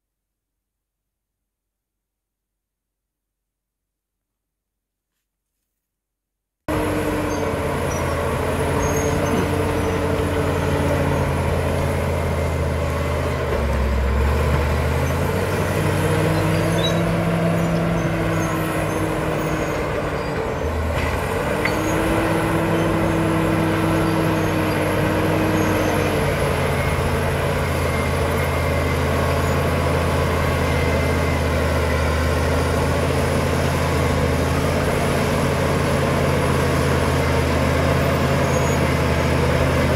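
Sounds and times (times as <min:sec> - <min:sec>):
bulldozer diesel engine running: 0:06.7 - 0:39.9.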